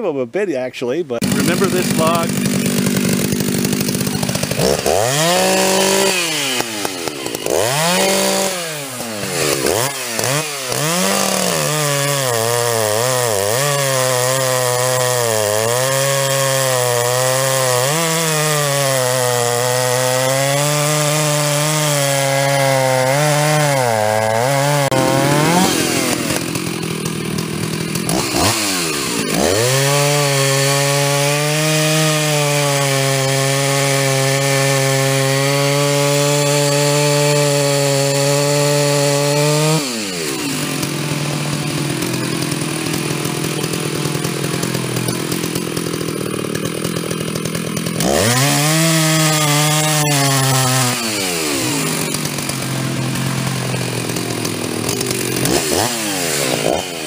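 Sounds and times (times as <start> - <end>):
chainsaw cutting log: 1.2 - 57.0.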